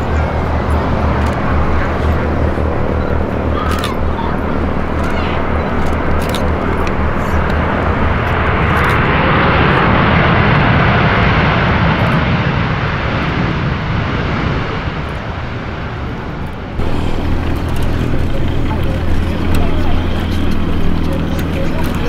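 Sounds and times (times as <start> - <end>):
jet engines roaring on landing: 0.0 - 22.0.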